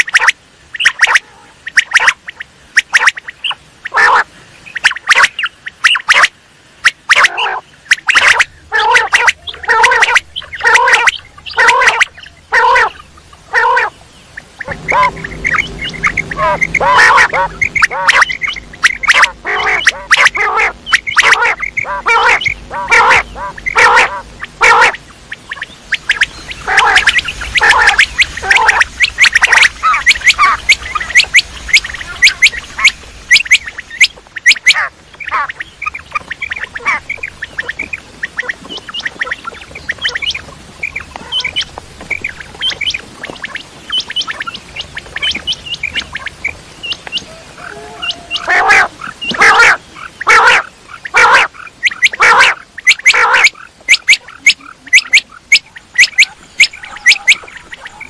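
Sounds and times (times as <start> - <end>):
quails calling: 0.0 - 58.0.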